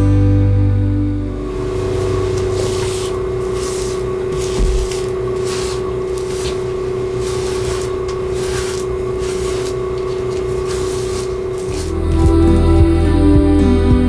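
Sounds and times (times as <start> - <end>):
steady mechanical hum: 0.8 - 14.0
hissing rubbing strokes: 1.5 - 12.8.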